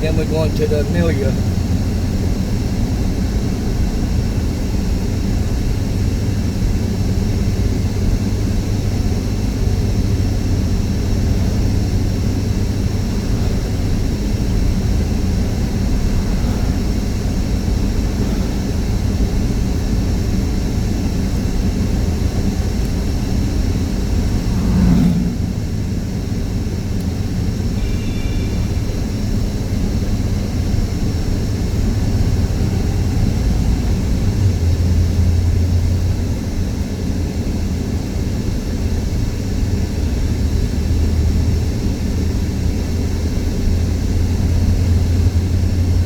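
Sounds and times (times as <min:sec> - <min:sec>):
truck engine and road noise: 0:00.0 - 0:46.0.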